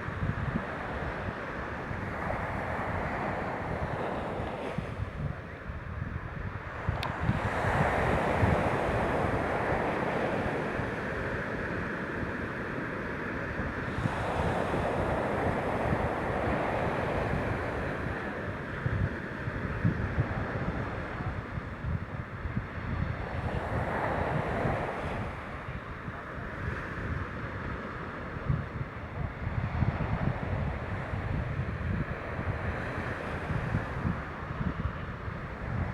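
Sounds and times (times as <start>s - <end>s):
waves washing in: 0.0s - 5.2s, 6.6s - 35.9s
wind rumbling on microphone: 0.0s - 35.9s.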